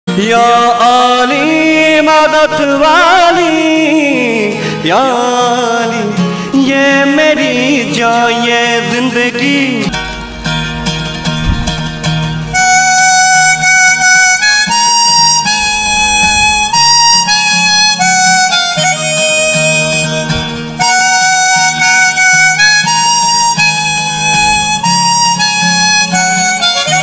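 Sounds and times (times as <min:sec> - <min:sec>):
strummed acoustic guitar: 0:00.1 - 0:27.0
harmonica melody: 0:00.8 - 0:27.0.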